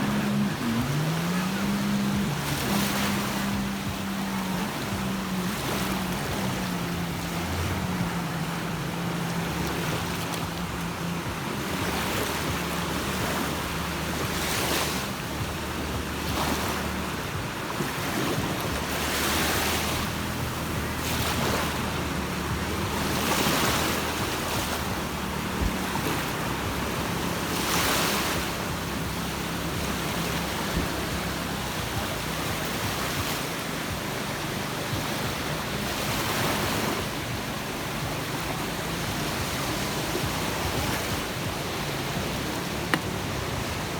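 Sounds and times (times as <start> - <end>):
sea waves breaking on shore: 0.0 - 43.9.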